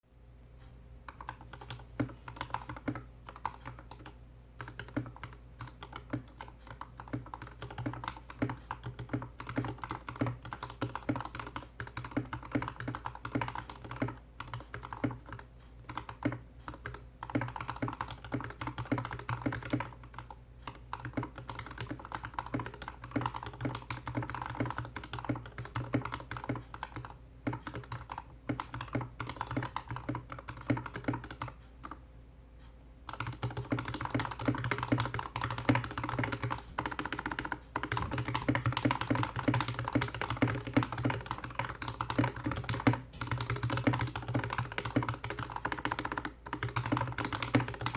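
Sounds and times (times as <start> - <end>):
mechanical keyboard clacking: 1.1 - 32.0, 33.1 - 47.9.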